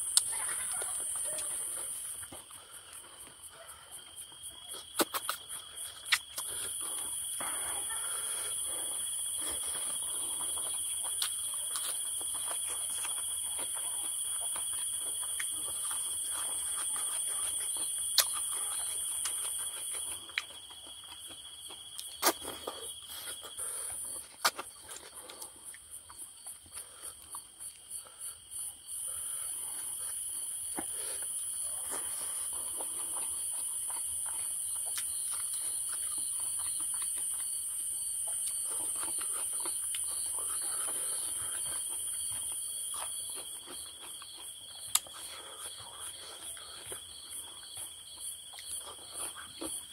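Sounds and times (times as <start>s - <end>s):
person eating: 0.0s - 3.2s, 4.1s - 28.3s, 29.0s - 49.9s
insect chorus: 0.0s - 49.9s.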